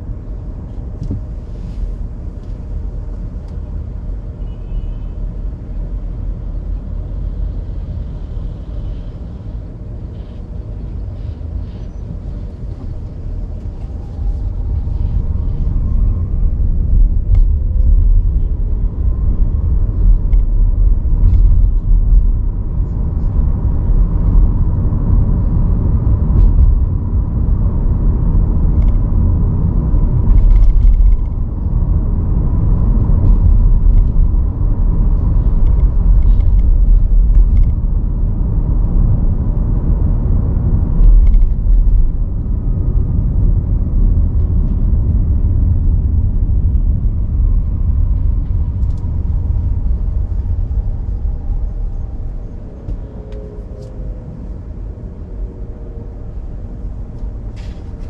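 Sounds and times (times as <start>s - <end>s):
car tyres and engine rumbling: 0.0s - 58.0s.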